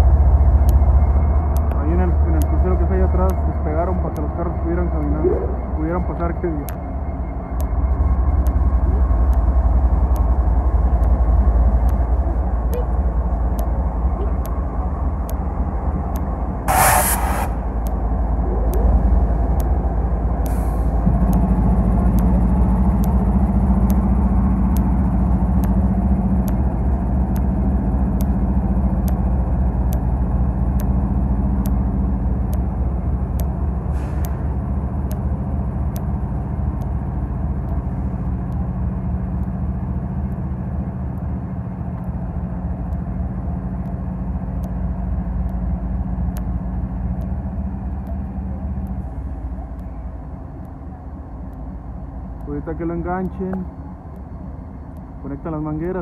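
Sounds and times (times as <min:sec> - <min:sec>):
faint regular ticking: 0:00.0 - 0:16.5, 0:17.7 - 0:56.0
locomotive engine drone: 0:00.0 - 0:56.0.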